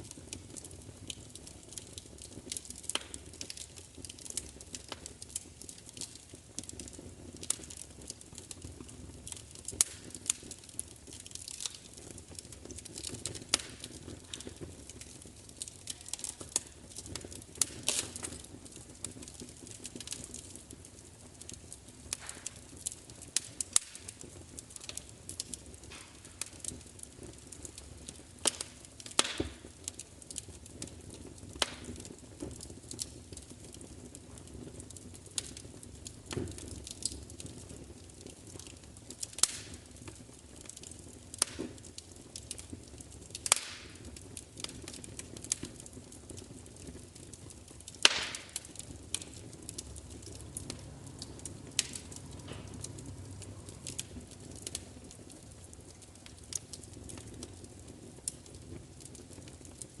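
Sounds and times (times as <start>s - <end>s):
low rustle of burning: 0.0s - 60.0s
wood fire pops and snaps: 0.0s - 60.0s.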